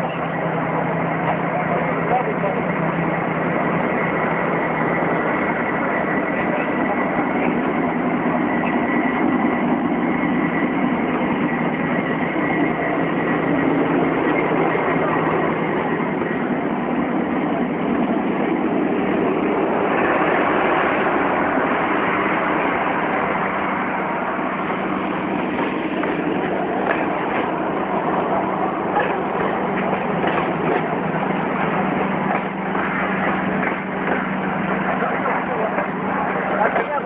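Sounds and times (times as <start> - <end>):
diesel locomotive engine running: 0.0 - 37.0.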